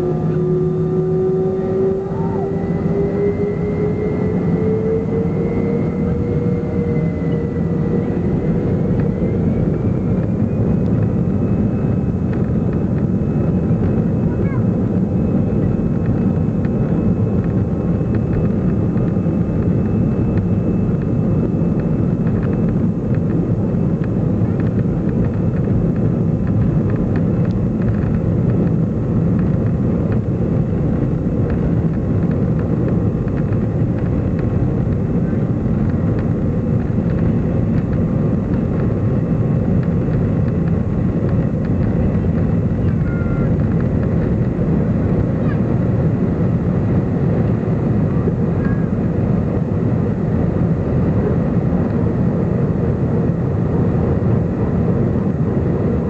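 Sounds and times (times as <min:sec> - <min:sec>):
faint steady whines: 0:00.0 - 0:56.0
jet engine cabin roar: 0:00.0 - 0:56.0.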